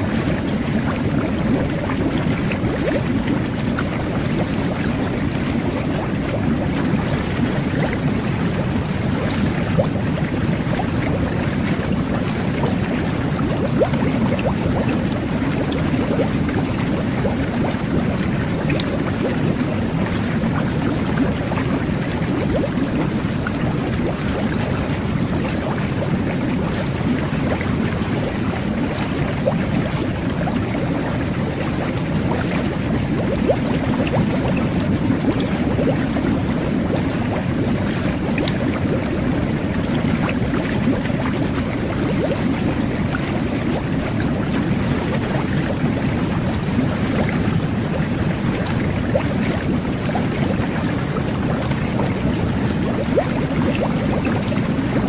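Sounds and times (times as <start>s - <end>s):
whirlpool bath jets churning water: 0.0s - 55.0s.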